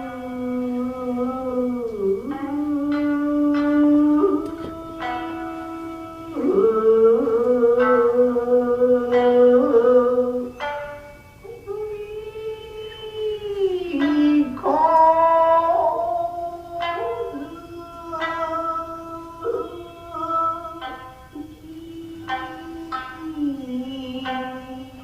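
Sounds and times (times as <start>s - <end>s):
person singing sliding long notes: 0.0s - 25.0s
plucked shamisen notes: 0.0s - 25.0s.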